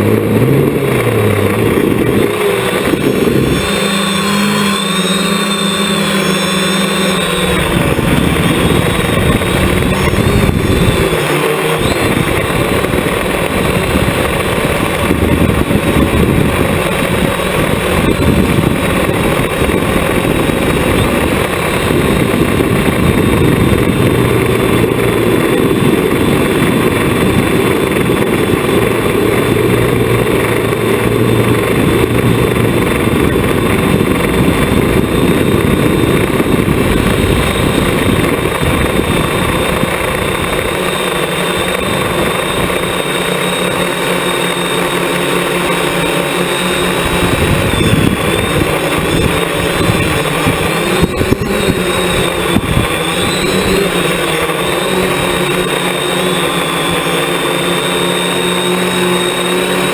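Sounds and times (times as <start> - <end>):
drone propellers whirring: 0.0 - 59.9.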